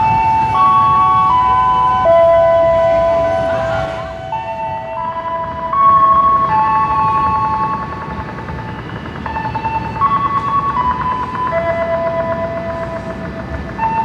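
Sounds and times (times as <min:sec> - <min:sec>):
slow electronic tone melody: 0:00.0 - 0:14.0.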